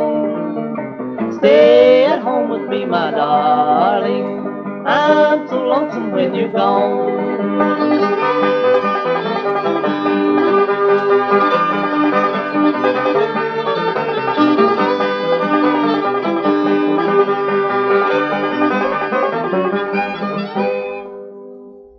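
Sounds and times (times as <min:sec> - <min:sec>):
string band instrumental: 0:00.0 - 0:21.0.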